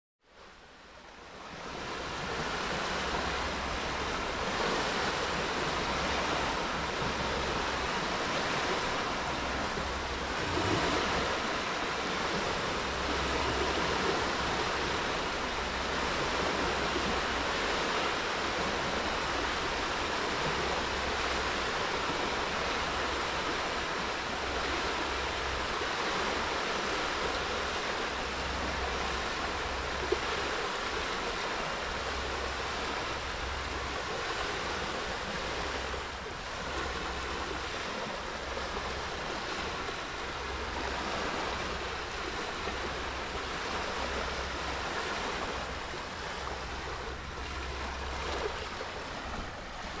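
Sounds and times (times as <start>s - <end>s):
small waves washing onto beach: 0.3s - 50.0s.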